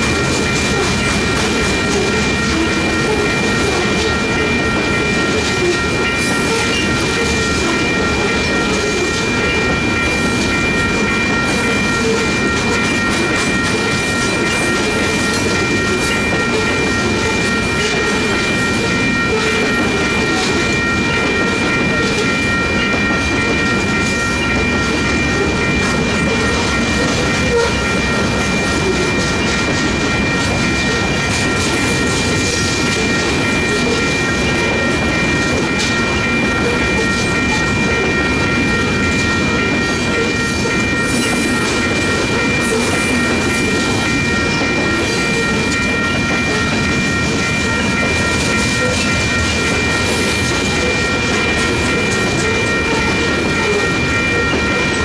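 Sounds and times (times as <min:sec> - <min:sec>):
crossing bell ringing: 0:00.0 - 0:55.0
train wheels rumbling and clacking: 0:00.0 - 0:55.0.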